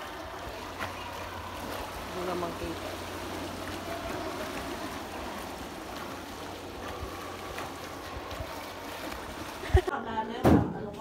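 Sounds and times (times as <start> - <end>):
water splashing from swimming strokes: 0.0 - 10.1.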